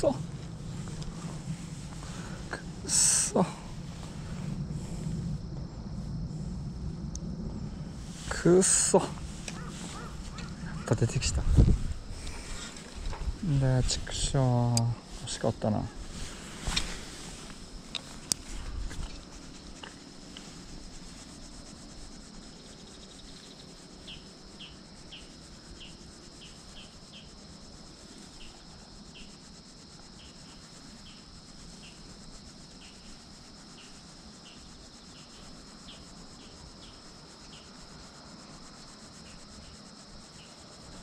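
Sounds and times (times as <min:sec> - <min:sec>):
insects chirring: 0:00.0 - 0:41.0
short insect chirps: 0:00.0 - 0:41.0.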